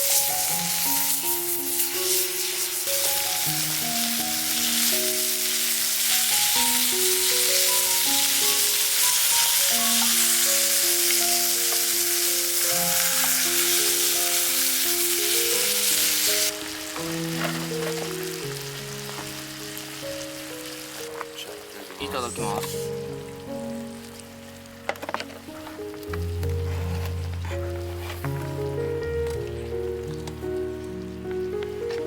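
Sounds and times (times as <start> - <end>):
food sizzling in a frying pan: 0.0 - 27.1
slow background music: 0.0 - 32.0.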